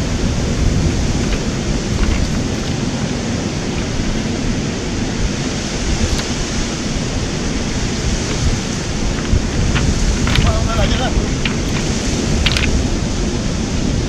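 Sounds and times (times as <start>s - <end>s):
surf breaking on pebble beach: 0.0s - 14.0s
wind buffeting microphone: 0.0s - 14.0s.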